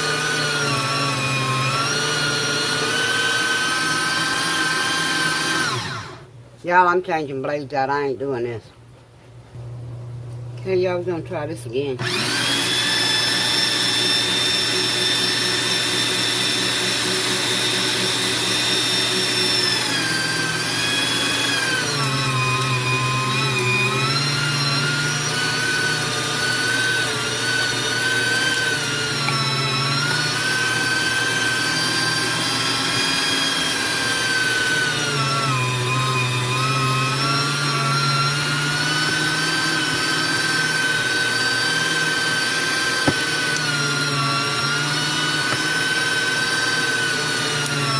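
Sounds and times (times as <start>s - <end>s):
meat grinder motor whining: 0.0s - 6.3s, 12.0s - 47.9s.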